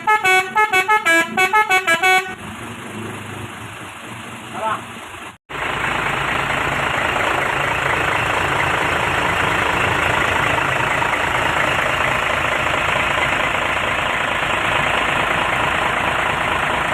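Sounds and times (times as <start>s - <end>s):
truck diesel engine idling: 0.0s - 2.4s, 3.7s - 16.9s.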